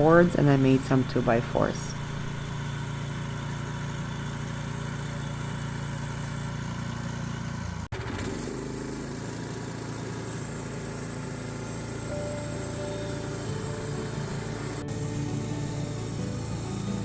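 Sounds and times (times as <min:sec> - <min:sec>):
petrol engine running: 0:00.0 - 0:17.0.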